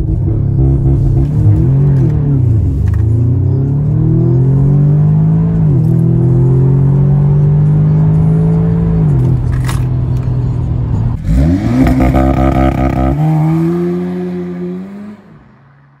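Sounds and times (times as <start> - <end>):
car engine revving: 0.0 - 15.6
car pulling away: 0.0 - 15.7.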